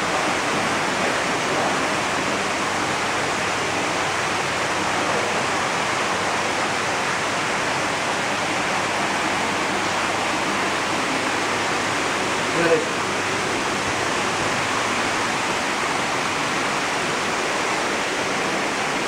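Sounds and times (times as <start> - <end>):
churning water rushing: 0.0 - 19.0.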